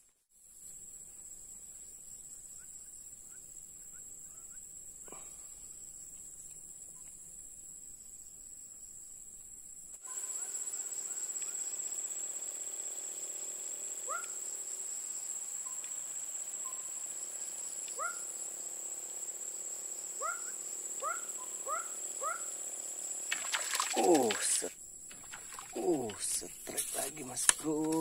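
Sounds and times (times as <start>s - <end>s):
insects trilling: 0.4s - 28.0s.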